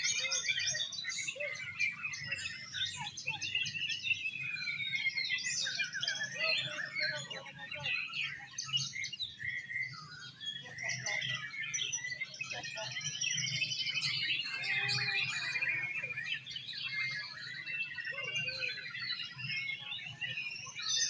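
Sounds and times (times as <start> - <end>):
caged birds singing whistles and chirps: 0.0 - 21.0.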